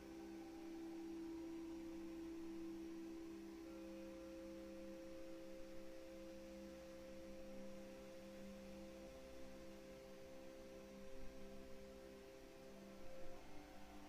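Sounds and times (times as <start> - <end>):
drone of pure held tones: 0.0 - 14.0.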